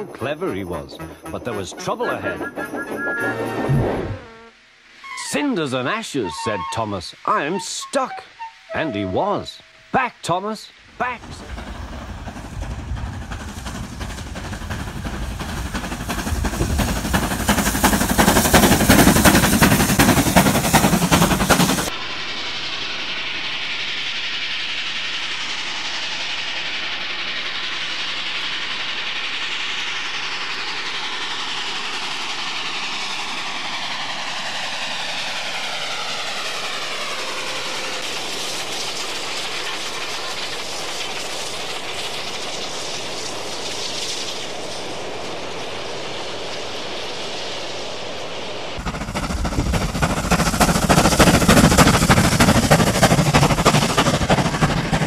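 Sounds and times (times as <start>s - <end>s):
steam locomotive exhaust beats: 0.0s - 3.8s, 4.8s - 55.0s
train running sound: 0.0s - 55.0s.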